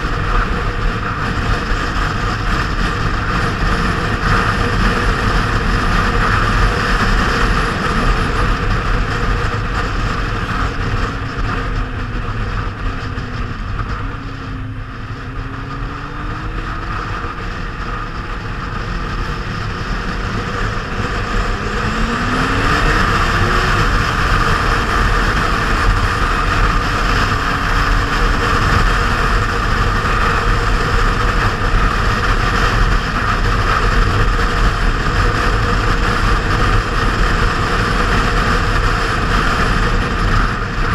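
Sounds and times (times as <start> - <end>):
motorcycle engine at speed: 0.0 - 40.9
wind rush on microphone: 0.0 - 40.9.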